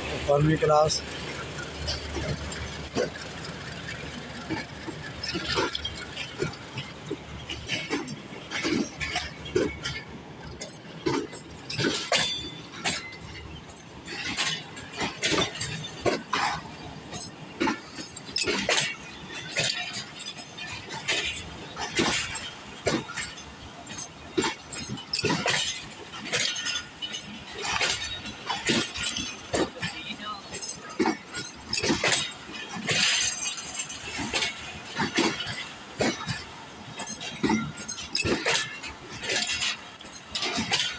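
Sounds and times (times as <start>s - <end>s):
train low rumble: 0.0s - 40.9s
train wheels clanking over rail joints: 0.0s - 40.9s.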